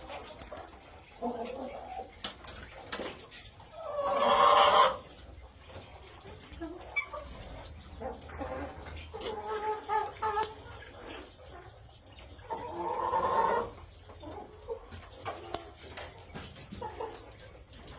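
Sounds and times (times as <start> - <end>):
chickens clucking and calling: 0.0 - 17.9.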